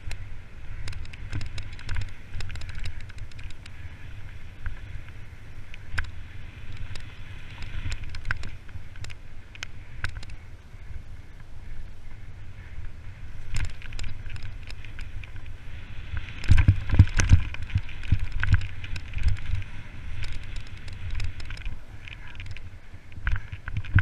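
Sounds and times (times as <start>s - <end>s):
bike rattling and knocking: 0.0s - 10.4s, 12.6s - 24.0s
wind rumble on microphone: 0.0s - 24.0s.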